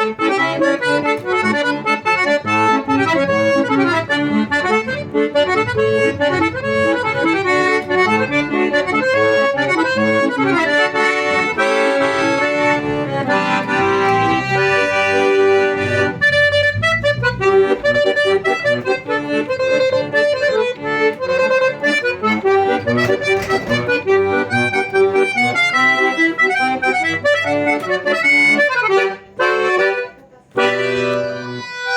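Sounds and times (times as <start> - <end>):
accordion playing: 0.0 - 31.9.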